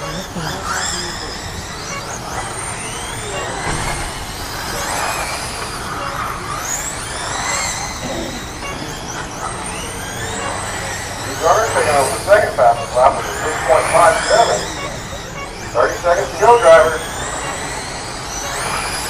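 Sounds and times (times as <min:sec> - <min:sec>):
rc car motors whining: 0:00.0 - 0:19.0.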